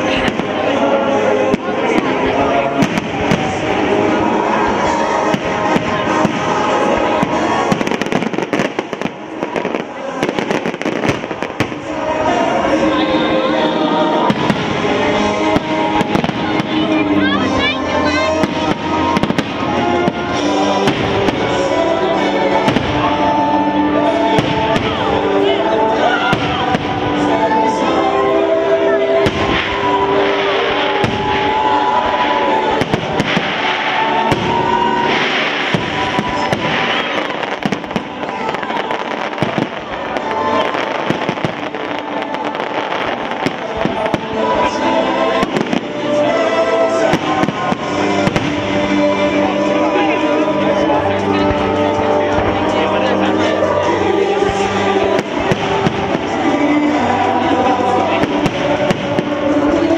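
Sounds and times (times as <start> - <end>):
fireworks bangs: 0.0 - 59.9
music: 0.0 - 59.9.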